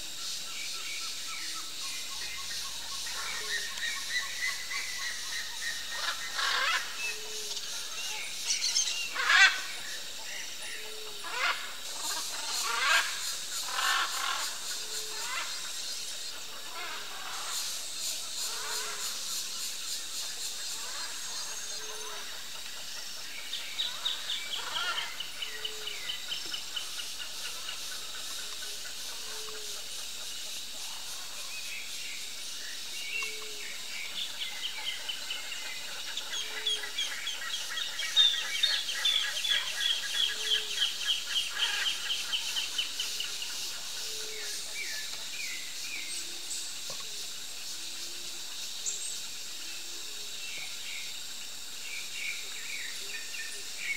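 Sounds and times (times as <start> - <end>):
wild birds calling: 0.0 - 53.9.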